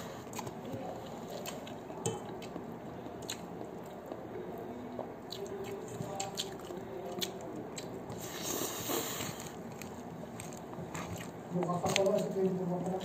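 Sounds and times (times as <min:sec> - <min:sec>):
man chewing with open mouth: 0:00.0 - 0:13.0.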